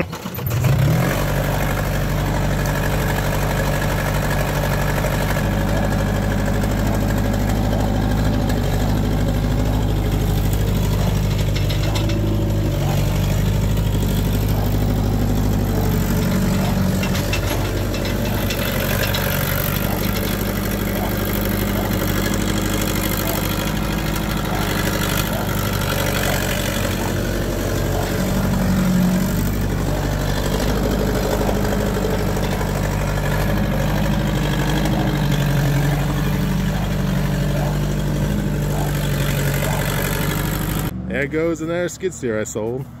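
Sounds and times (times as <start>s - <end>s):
diesel engine starting and running: 0.0s - 43.0s.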